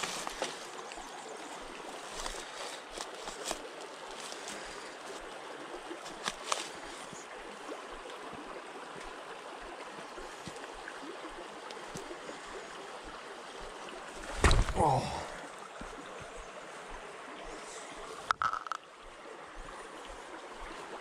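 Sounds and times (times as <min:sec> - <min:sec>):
river water gurgling: 0:00.0 - 0:21.0.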